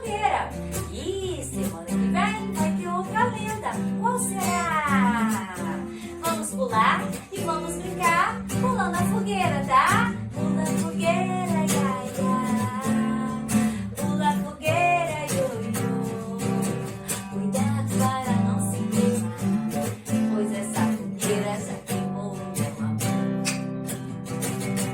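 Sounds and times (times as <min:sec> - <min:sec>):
strummed acoustic guitar music: 0:00.0 - 0:24.9.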